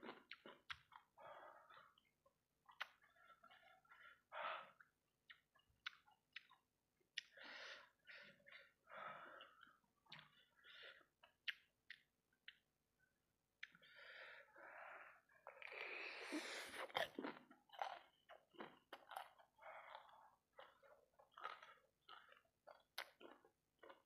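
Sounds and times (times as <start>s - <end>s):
person chewing food: 0.0s - 12.7s, 13.6s - 14.2s, 15.1s - 24.0s.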